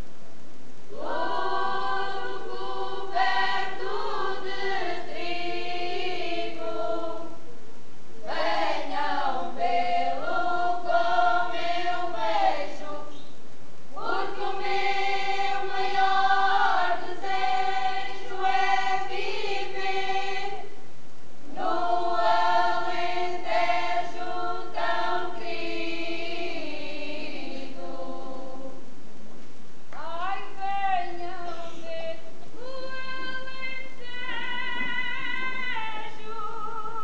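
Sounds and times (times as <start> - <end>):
folk choir singing unaccompanied: 0.9 - 13.3, 13.9 - 28.9, 30.0 - 37.0.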